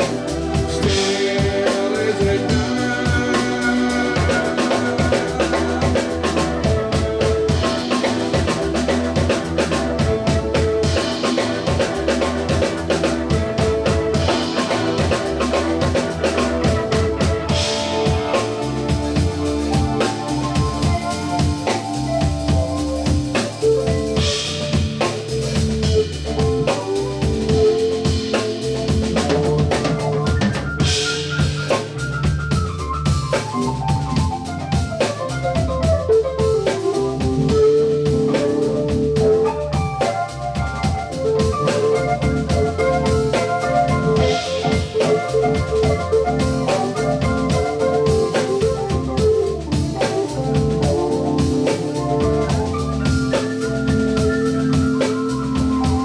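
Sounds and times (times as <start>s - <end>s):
bass line: 0.0s - 56.0s
drum kit beat: 0.0s - 56.0s
rock band playing: 0.0s - 56.0s.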